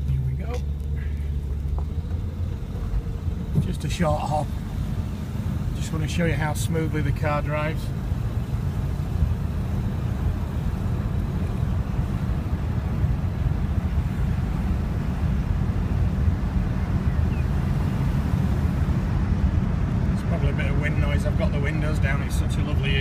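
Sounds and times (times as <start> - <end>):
low road rumble: 0.0 - 23.0
wind through car windows: 0.0 - 23.0.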